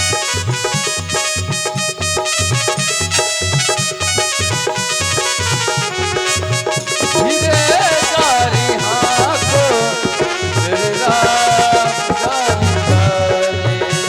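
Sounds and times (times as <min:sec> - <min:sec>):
devotional instrumental music: 0:00.0 - 0:14.0
sliding lead melody: 0:00.0 - 0:14.0
steady drum beat: 0:00.0 - 0:14.0.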